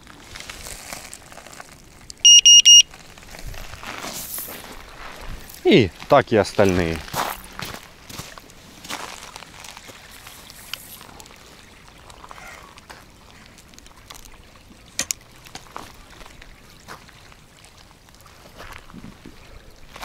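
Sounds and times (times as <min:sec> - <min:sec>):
waves lapping on shingle: 0:00.0 - 0:02.1, 0:02.8 - 0:20.0.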